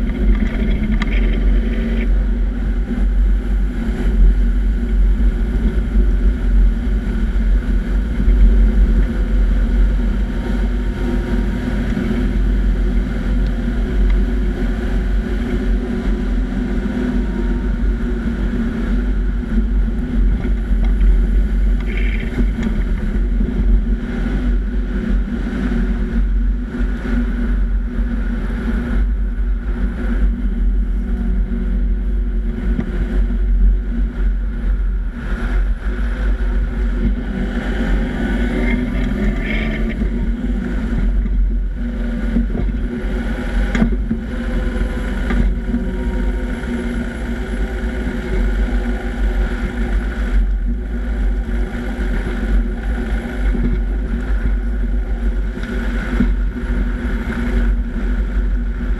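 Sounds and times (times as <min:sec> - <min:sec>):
rumble of tyres and drivetrain: 0:00.0 - 0:58.9
wind buffeting microphone: 0:00.0 - 0:58.9.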